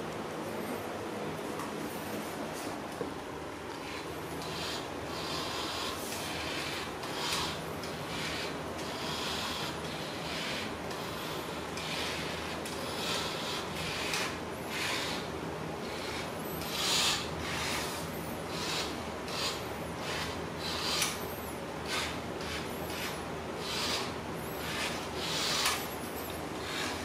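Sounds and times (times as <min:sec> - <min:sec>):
toy car wheels scraping on tile: 0:03.8 - 0:27.0.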